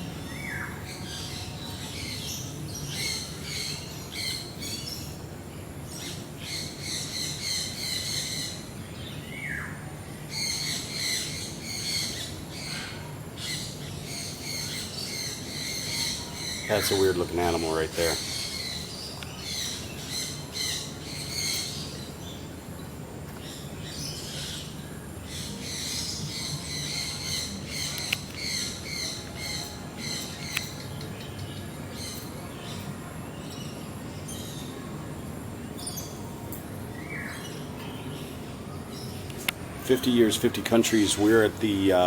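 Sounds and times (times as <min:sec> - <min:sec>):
birds chirping and calling: 0:00.0 - 0:35.0, 0:35.7 - 0:42.0.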